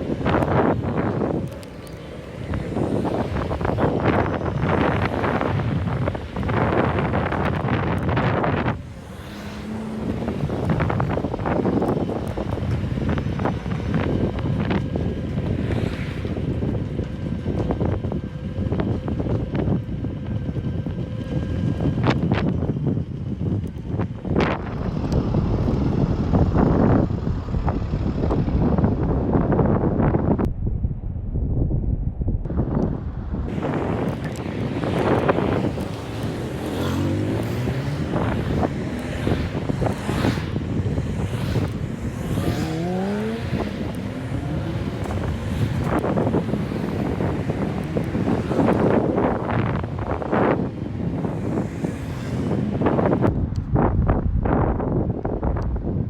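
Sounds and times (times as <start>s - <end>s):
road noise: 0.0s - 56.0s
wind buffeting microphone: 0.0s - 56.0s.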